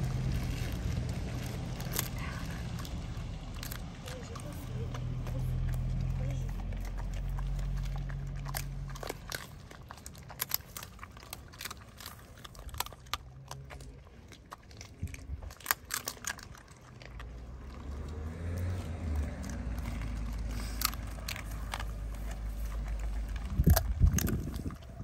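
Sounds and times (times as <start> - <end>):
dog chewing raw meat: 0.0 - 25.0.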